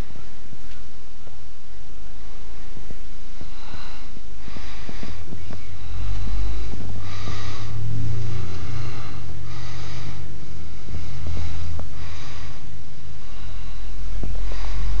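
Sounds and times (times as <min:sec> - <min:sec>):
steady low rumble: 0:00.0 - 0:15.0
breathing close to microphone: 0:02.1 - 0:15.0.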